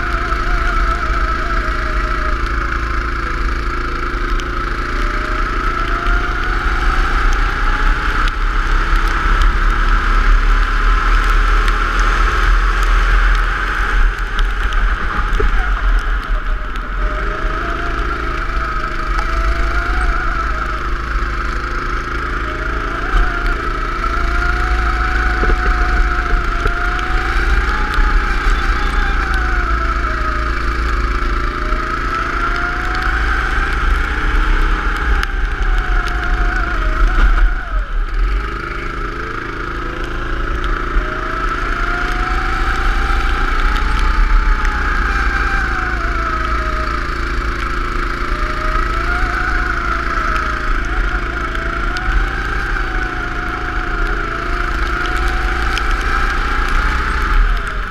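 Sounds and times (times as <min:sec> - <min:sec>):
go-kart engine revving: 0:00.0 - 0:57.9.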